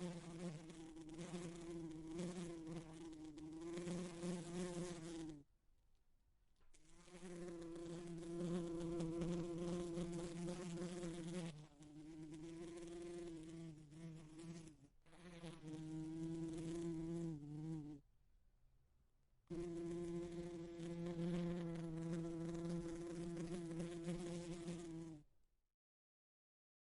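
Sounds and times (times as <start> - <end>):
bee buzzing against window: 0.0 - 5.4, 6.8 - 18.0, 19.5 - 25.3.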